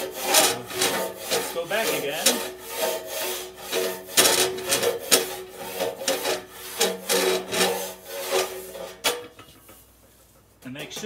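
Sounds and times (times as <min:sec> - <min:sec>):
rasp scraping metal pipe: 0:00.0 - 0:10.0.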